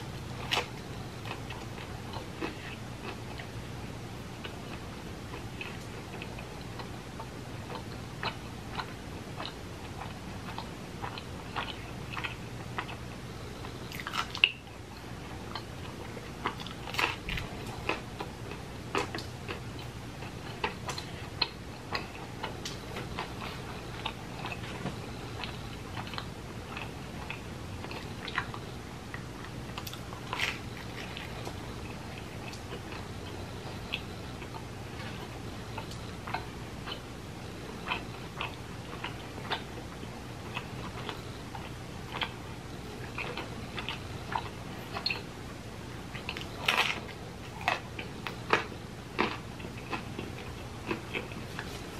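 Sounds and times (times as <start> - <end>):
steady low hum: 0.0 - 51.9
person chewing pizza: 0.1 - 51.9.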